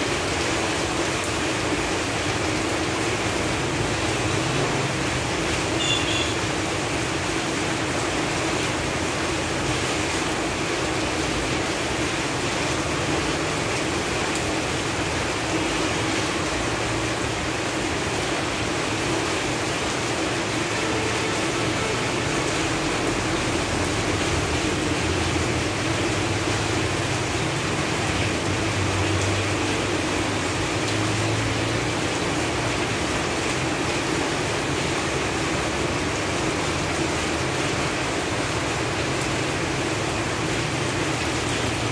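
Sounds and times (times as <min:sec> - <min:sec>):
rain falling on leaves: 0:00.0 - 0:41.9.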